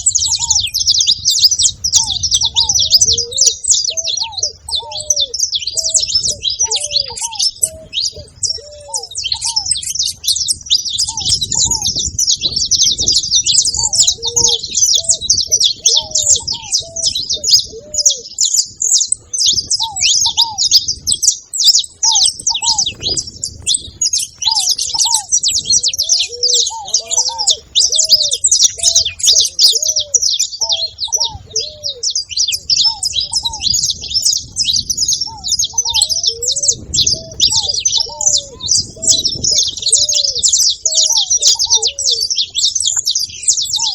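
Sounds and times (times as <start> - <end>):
finch singing and chattering: 0.0 - 43.9
low rising and falling bird notes: 0.0 - 43.9.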